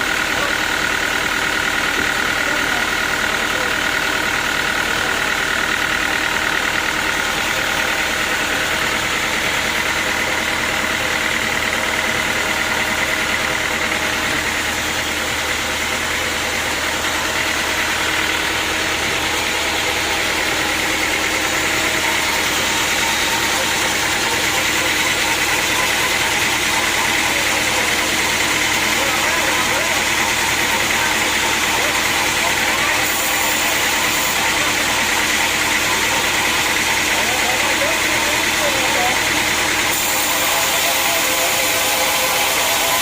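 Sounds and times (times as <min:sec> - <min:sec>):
sawmill motor running: 0:00.0 - 0:43.0.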